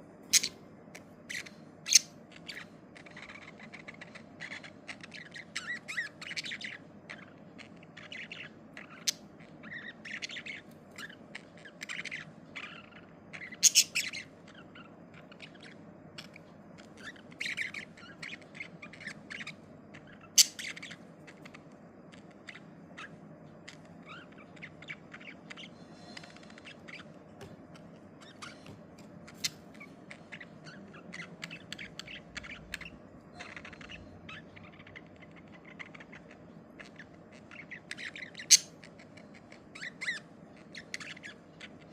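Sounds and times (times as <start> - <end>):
faint steady background noise: 0.0 - 41.9
budgies chirping and squawking: 0.2 - 41.9.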